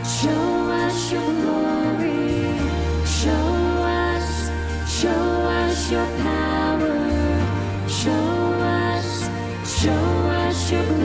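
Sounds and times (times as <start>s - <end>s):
live worship band playing: 0.0s - 11.0s
person singing lead vocals: 0.0s - 11.0s.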